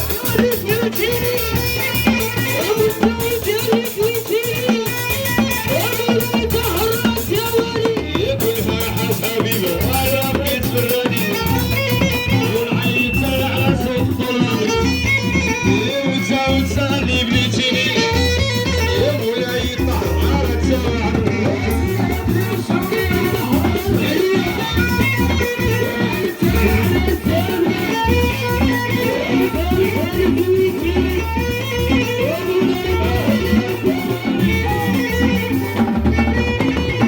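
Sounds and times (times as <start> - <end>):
live popular music: 0.0 - 37.0
percussion beat: 0.0 - 37.0.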